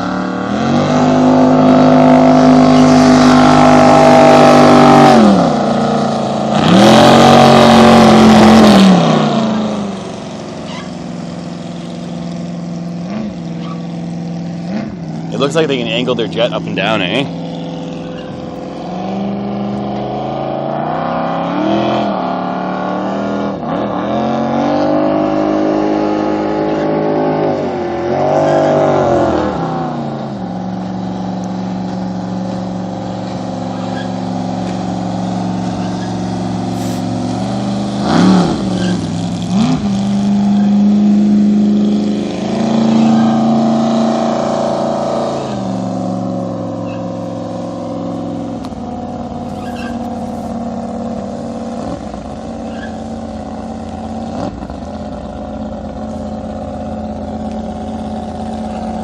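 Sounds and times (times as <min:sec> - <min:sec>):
boat engine revving: 0:00.0 - 0:59.0.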